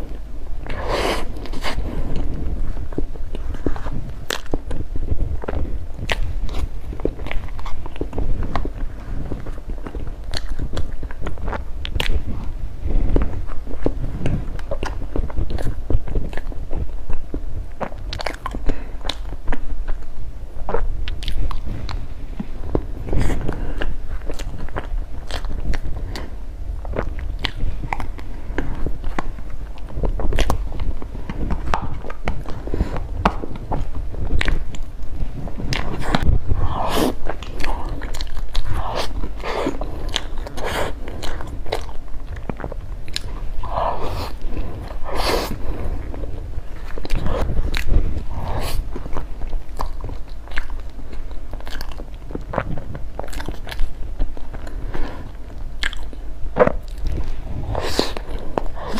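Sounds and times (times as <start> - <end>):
mouth clicks and smacks: 0.0 - 58.9
person chewing bread: 0.0 - 58.9.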